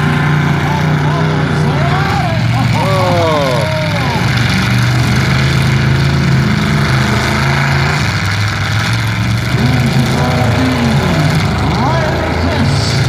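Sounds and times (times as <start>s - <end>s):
car engines running rough: 0.0s - 13.0s.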